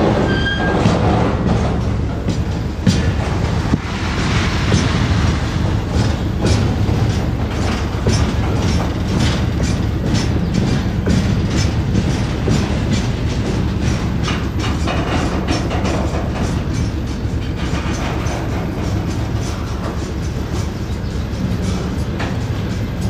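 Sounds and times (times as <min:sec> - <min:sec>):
freight train rumbling past: 0:00.0 - 0:23.0
wheels clacking over rail joints: 0:00.0 - 0:23.0.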